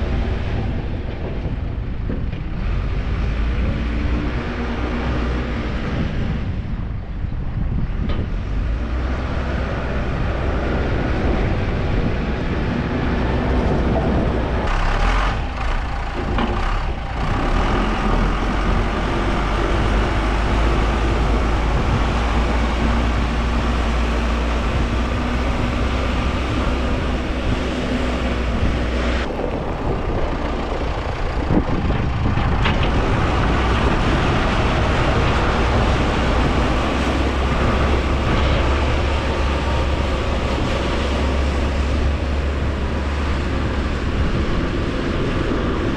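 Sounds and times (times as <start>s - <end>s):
road noise: 0.0s - 45.9s
truck engine droning: 0.0s - 45.9s
wind noise: 0.0s - 45.9s.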